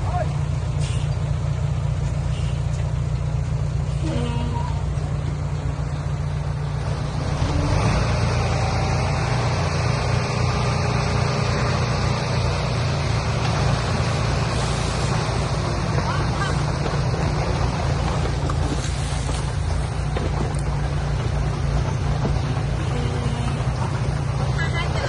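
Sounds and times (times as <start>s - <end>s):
heavy truck engine rumbling: 0.0s - 25.0s.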